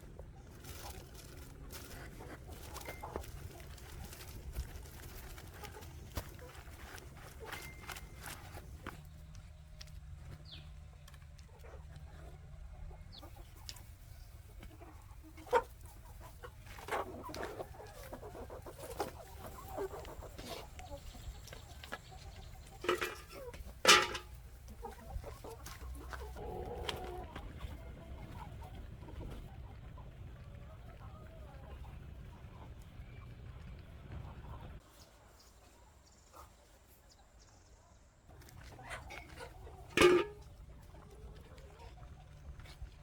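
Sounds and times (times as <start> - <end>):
chickens clucking: 0.0 - 37.2, 38.3 - 43.0.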